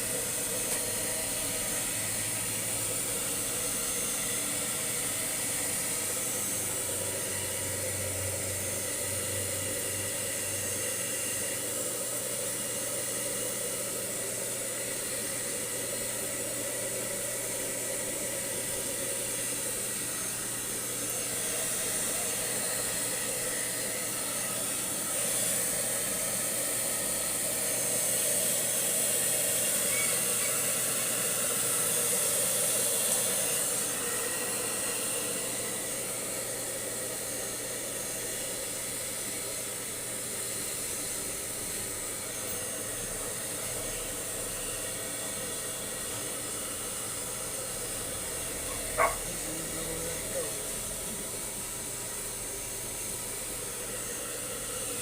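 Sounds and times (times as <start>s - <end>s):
blow dryer running: 0.0s - 55.0s.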